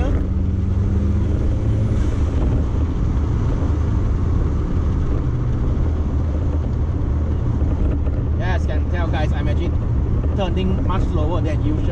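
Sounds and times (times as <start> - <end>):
car engine droning: 0.0 - 11.9
tyre and road noise: 0.0 - 11.9.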